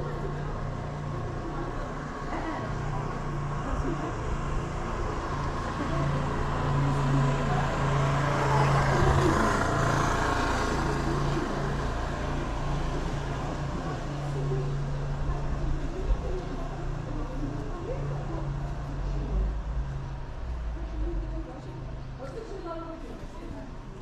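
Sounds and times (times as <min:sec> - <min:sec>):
vehicle passing: 0:00.0 - 0:23.0.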